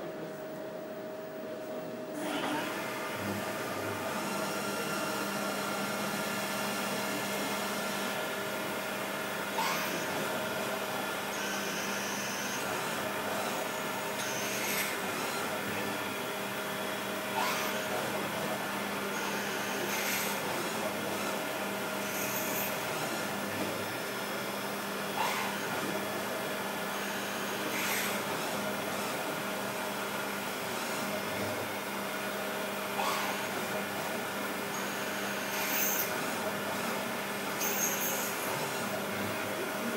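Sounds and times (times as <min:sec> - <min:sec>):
milling machine spindle whirring: 0:02.2 - 0:39.9.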